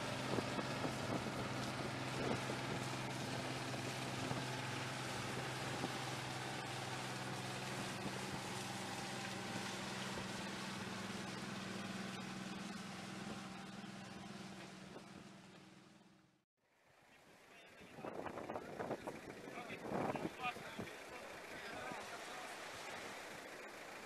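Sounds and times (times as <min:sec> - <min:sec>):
water rushing along hull: 0:00.0 - 0:14.5, 0:18.9 - 0:24.0
diesel engine humming: 0:00.0 - 0:16.4, 0:18.5 - 0:24.0.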